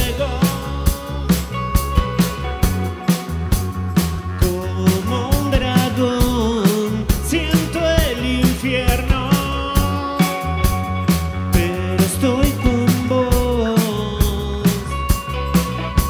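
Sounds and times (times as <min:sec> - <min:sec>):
man singing lead: 0:00.0 - 0:16.0
rock band playing live: 0:00.0 - 0:16.0.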